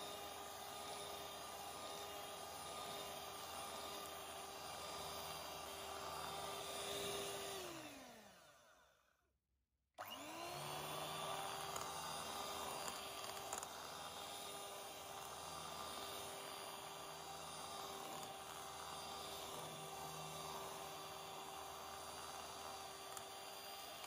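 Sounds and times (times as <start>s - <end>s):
electric hand mixer whine: 0.0s - 9.3s, 10.0s - 24.0s.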